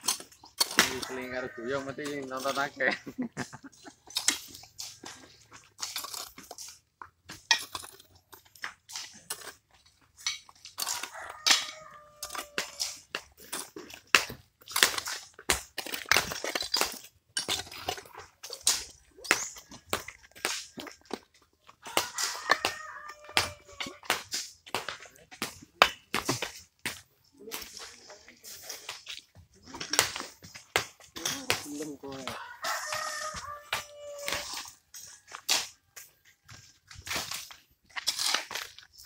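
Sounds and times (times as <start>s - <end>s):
hoes chopping stony earth: 0.0s - 2.7s, 4.1s - 28.0s, 28.8s - 35.8s, 36.5s - 39.0s.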